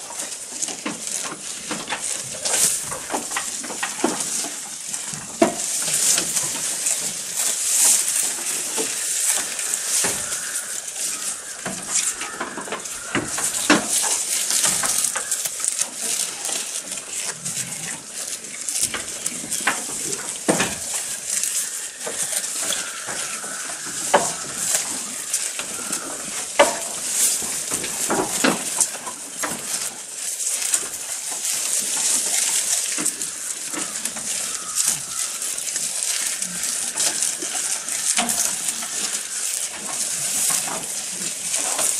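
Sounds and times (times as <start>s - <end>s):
goats crunching grass: 0.0s - 41.9s
leaves rustling: 0.0s - 41.9s.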